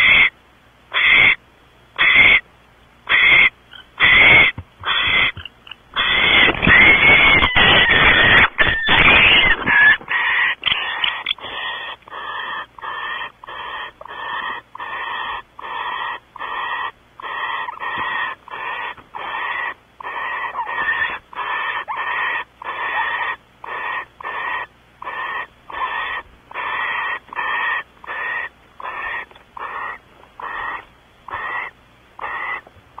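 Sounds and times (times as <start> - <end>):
owl rasping hiss calls: 0.0 - 1.4, 2.0 - 2.4, 3.1 - 33.0.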